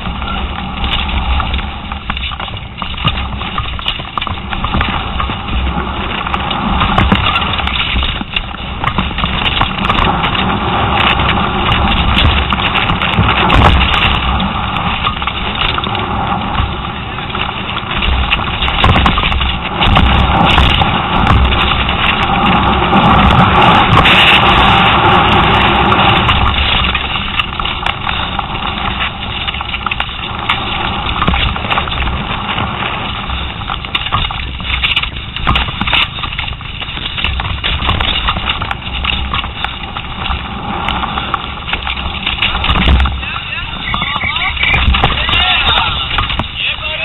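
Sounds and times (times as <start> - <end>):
bike tyres and frame rattling: 0.0 - 47.0
wind buffeting microphone: 0.0 - 47.0.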